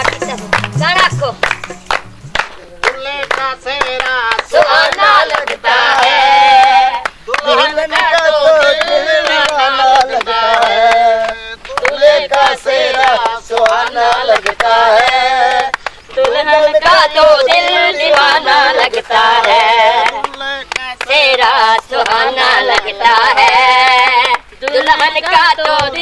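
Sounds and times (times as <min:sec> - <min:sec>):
woman singing unaccompanied: 0:00.0 - 0:01.5, 0:02.7 - 0:26.0
hands clapping along: 0:00.0 - 0:26.0.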